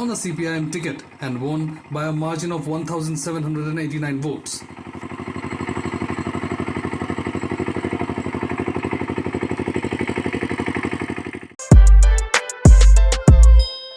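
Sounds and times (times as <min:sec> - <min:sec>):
power tiller engine chugging: 0:00.0 - 0:11.6.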